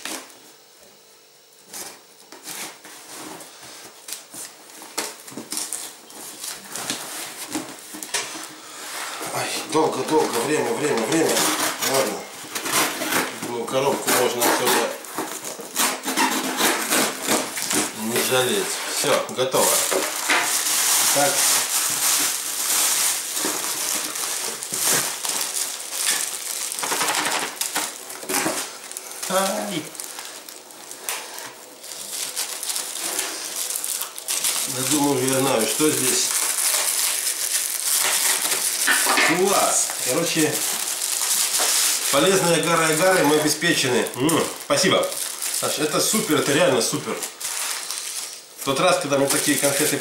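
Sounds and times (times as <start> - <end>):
plastic wrapping crinkling: 1.7 - 50.0.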